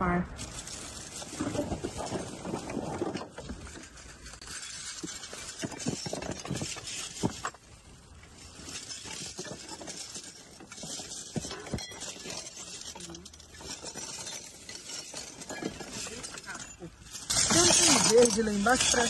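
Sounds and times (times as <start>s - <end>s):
rummaging through trash: 0.3s - 19.0s.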